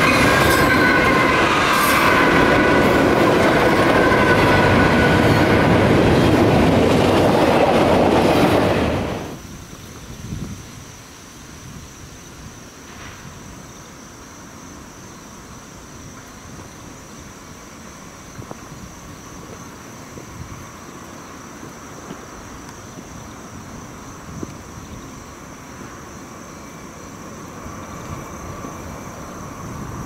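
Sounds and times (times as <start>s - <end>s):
distant train rumble: 0.0s - 30.0s
insect chorus: 0.0s - 30.0s.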